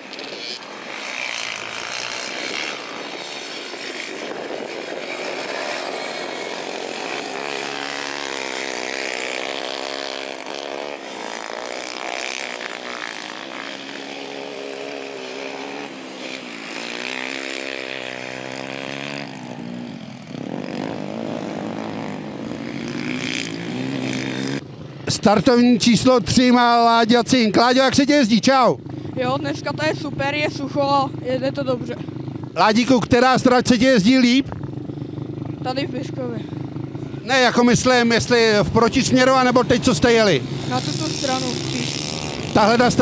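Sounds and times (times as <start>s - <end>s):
quad engine revving: 0.0s - 43.0s.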